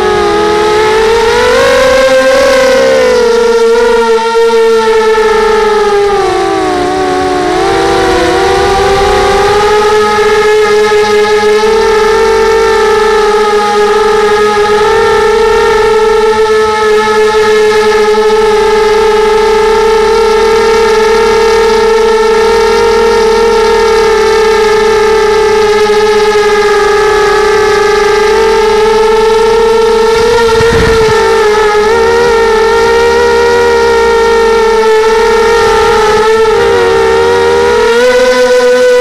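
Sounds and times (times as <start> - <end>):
quadcopter motors whining: 0.0 - 39.0.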